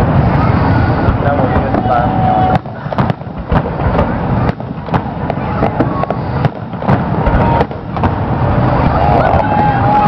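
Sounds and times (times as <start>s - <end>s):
fireworks bangs: 0.0s - 10.0s
low rumble: 0.0s - 10.0s.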